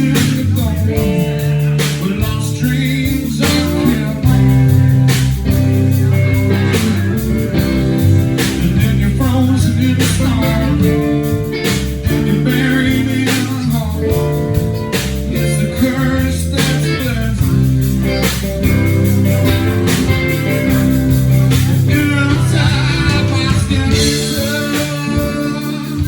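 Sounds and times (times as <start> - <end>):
blues-rock band playing: 0.0 - 26.0
electric guitar: 0.0 - 26.0.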